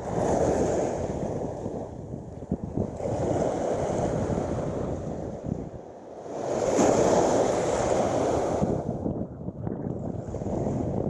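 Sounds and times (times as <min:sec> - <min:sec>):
small waves washing on sand: 0:00.0 - 0:09.1, 0:10.0 - 0:11.0
wind buffeting microphone: 0:00.0 - 0:11.0.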